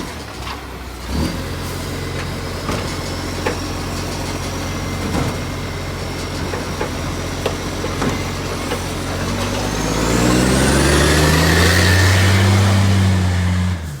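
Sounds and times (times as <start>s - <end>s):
truck diesel engine revving: 0.0s - 14.0s.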